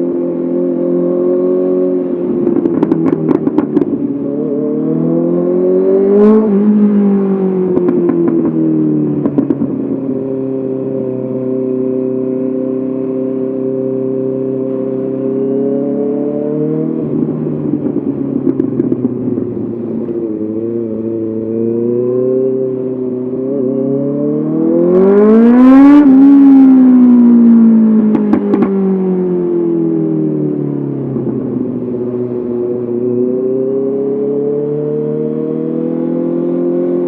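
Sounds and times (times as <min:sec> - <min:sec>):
motorcycle engine revving: 0:00.0 - 0:29.4, 0:31.0 - 0:37.0.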